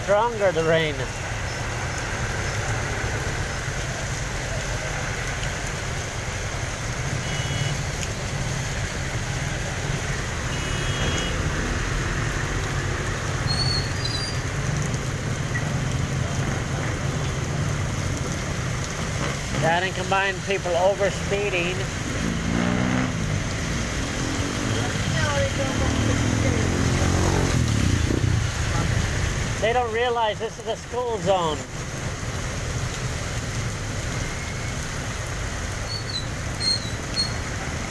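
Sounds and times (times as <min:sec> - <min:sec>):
heavy rain on wet street: 0:00.0 - 0:37.9
vehicles driving past: 0:00.0 - 0:37.9.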